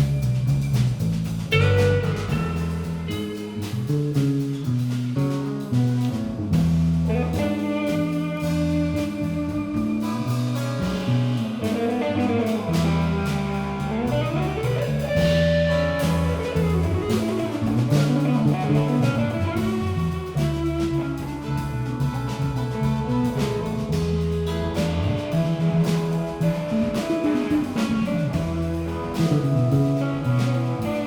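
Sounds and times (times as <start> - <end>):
bass line: 0.0 - 31.0
drum kit with cymbal hits: 0.0 - 31.0
guitar lines: 1.5 - 31.0.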